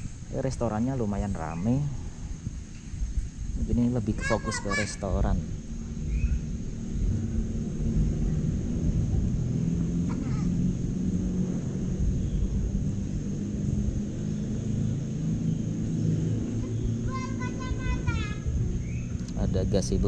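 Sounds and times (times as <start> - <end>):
high insect drone: 0.0 - 20.0
vehicle engines rumbling: 0.0 - 20.0.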